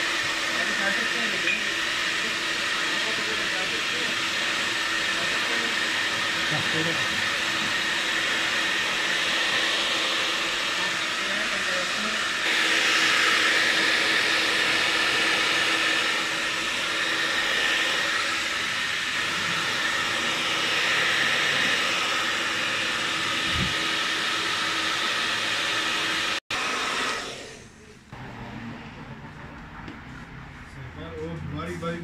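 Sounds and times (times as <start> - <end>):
hair dryer blowing: 0.0 - 30.3.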